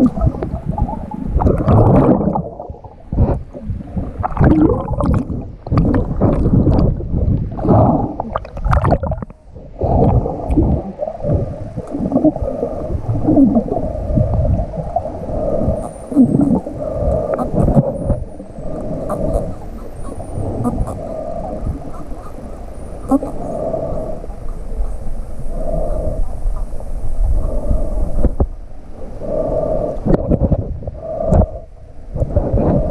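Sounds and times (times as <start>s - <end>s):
muffled wash of water: 0.0s - 32.9s
underwater bubbling and splashing: 0.0s - 32.9s.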